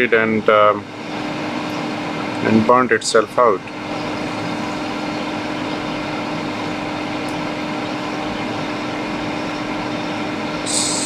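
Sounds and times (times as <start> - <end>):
low fan hum: 0.0 - 11.0.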